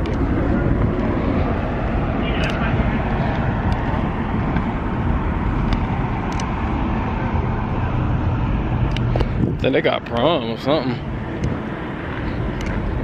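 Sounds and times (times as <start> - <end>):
cars going by: 0.0 - 13.0.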